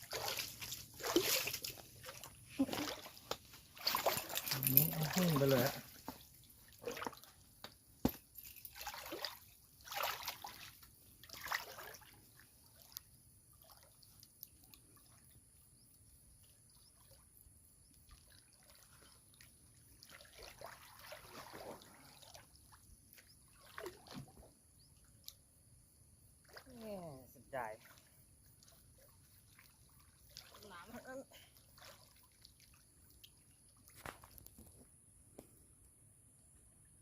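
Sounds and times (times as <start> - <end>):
water sloshing and trickling: 0.0 - 35.0.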